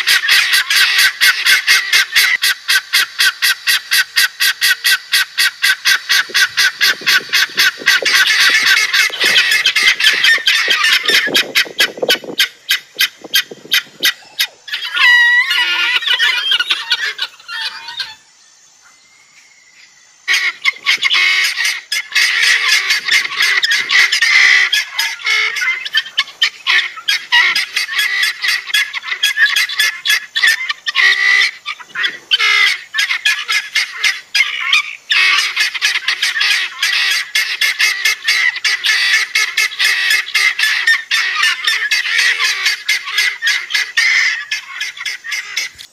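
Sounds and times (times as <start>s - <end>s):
guinea fowl calling: 0.0s - 45.9s.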